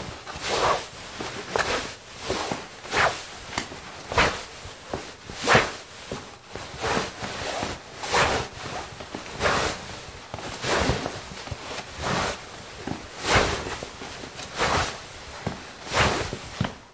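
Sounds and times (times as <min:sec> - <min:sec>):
trouser fabric swishing: 0:00.0 - 0:16.9.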